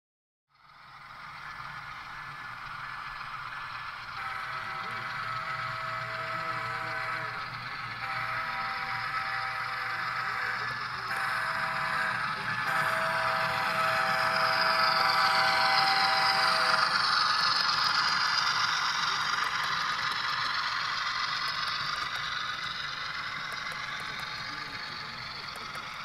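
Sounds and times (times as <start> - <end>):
model train wheels clattering: 0.6 - 26.0.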